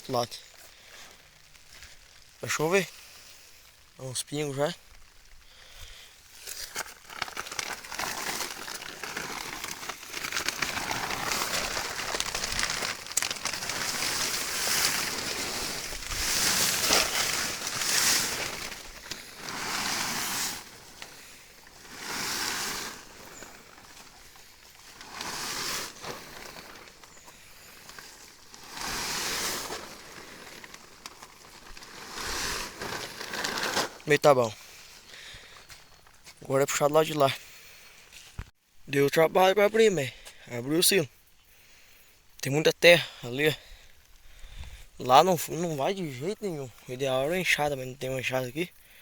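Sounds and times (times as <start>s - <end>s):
plastic tarp rustling and crinkling: 0.0s - 37.4s, 43.5s - 49.0s.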